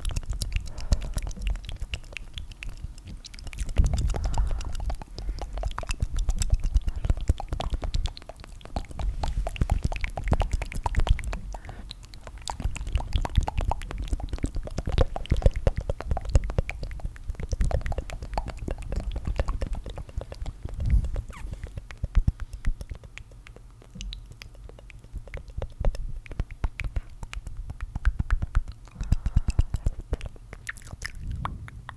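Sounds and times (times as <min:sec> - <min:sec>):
wet mouth clicks: 0:00.0 - 0:31.9.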